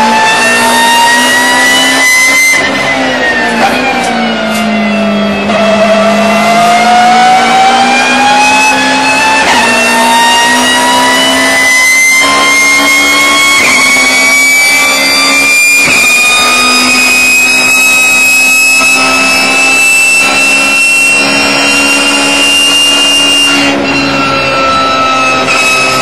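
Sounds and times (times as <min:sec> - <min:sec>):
race car engine under throttle: 0:00.0 - 0:26.0.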